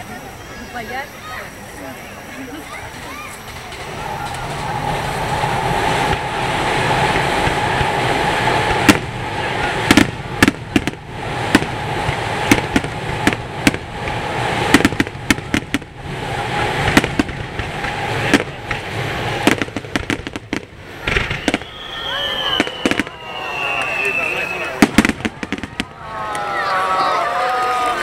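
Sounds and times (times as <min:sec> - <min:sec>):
steady background noise: 0:00.0 - 0:28.0
firework bangs and cracks: 0:02.7 - 0:28.0.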